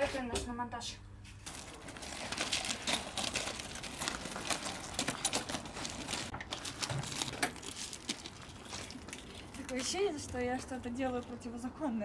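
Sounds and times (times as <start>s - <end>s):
gravel crunching under wheel: 1.4s - 12.0s.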